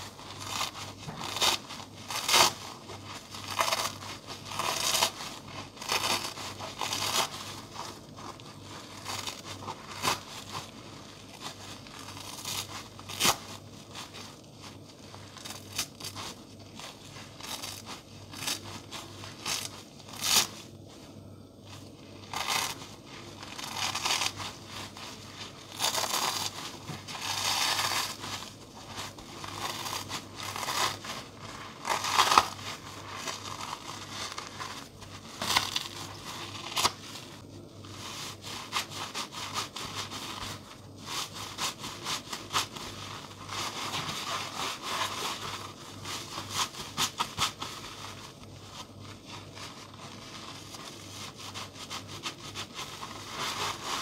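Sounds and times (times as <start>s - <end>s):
crispy sponges tearing: 0.0s - 21.1s, 21.7s - 54.0s.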